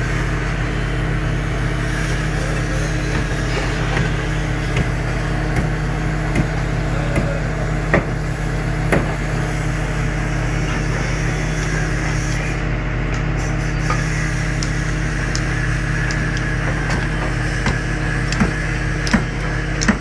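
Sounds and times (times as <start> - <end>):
heavy diesel machinery drone: 0.0 - 20.0.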